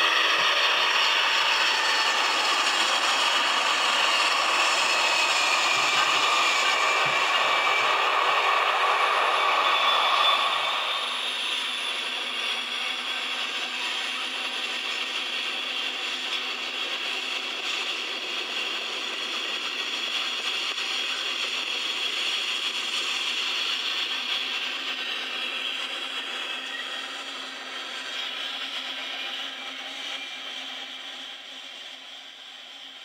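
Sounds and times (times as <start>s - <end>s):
model trains whirring on track: 0.0s - 33.0s.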